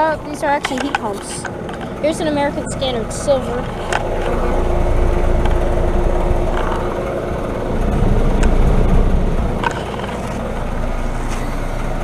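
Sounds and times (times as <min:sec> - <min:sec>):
heat pump humming: 0:00.0 - 0:12.0
steady tone: 0:01.2 - 0:11.9.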